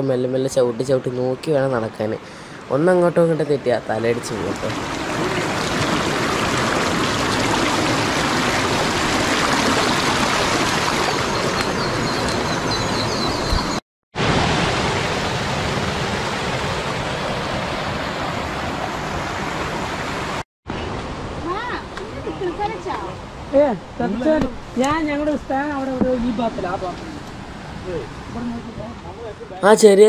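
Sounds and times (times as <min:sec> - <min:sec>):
stream rushing over rocks: 0:03.6 - 0:13.1, 0:14.2 - 0:29.1.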